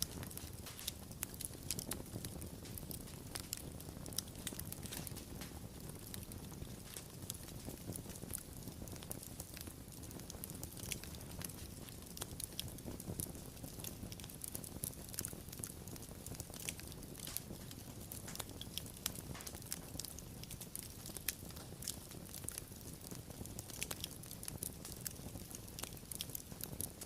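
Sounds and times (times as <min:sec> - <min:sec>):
low rumble of burning: 0:00.0 - 0:27.0
wood fire pops: 0:00.0 - 0:27.0.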